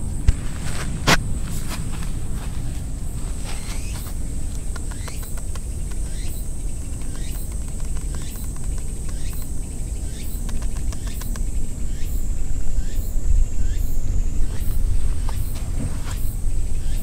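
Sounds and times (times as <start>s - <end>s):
high insect drone: 0.0s - 17.0s
wind buffeting microphone: 0.0s - 17.0s
falling chirp: 3.1s - 17.0s.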